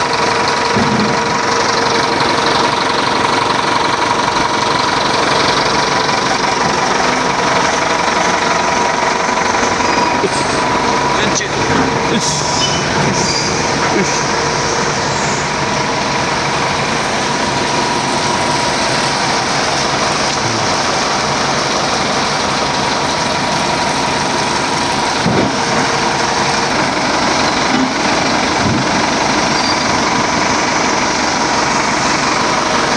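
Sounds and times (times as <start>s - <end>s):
engine running: 0.0s - 32.9s.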